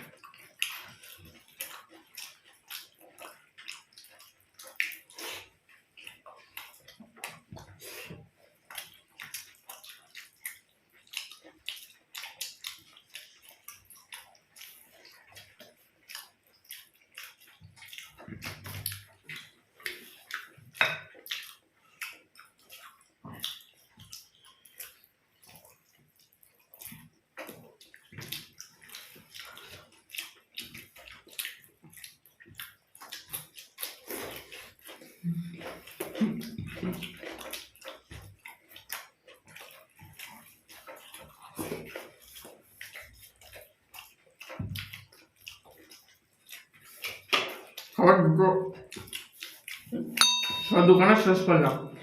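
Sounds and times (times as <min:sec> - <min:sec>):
wet chewing and lip smacks: 0:00.0 - 0:48.0, 0:48.6 - 0:52.0.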